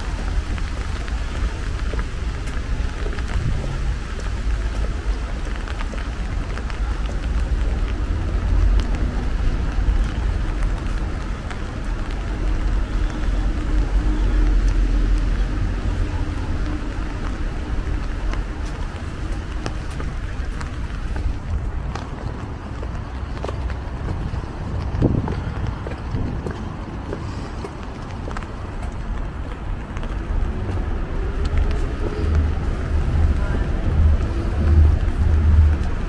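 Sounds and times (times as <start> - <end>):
close raindrop ticks: 0.0 - 36.0
rain falling on street: 0.0 - 36.0
traffic rumble: 0.0 - 36.0.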